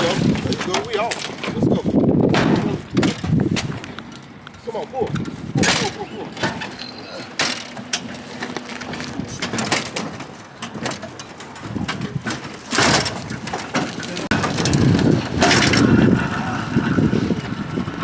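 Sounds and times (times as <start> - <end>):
knocks and clatter: 0.0 - 4.3, 5.1 - 18.0
dolly wheels rumbling over ground: 0.0 - 18.0.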